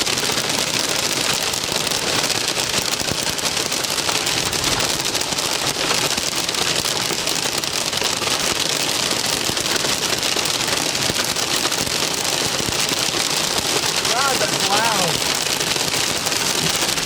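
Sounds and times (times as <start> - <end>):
heavy rain pelting a vehicle: 0.0 - 17.0.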